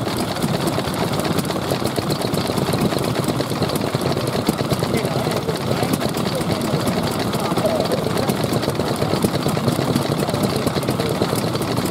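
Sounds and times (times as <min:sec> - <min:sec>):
stationary engines clattering: 0:00.0 - 0:11.9.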